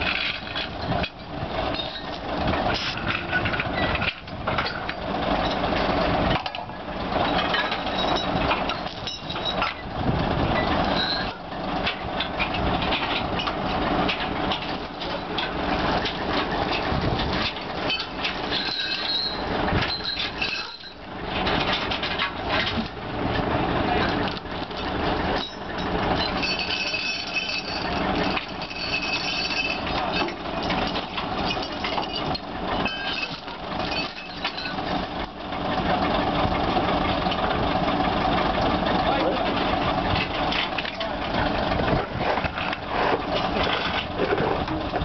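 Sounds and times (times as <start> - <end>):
chains clanking on asphalt: 0.0 - 45.0
diesel truck engine running: 0.0 - 45.0.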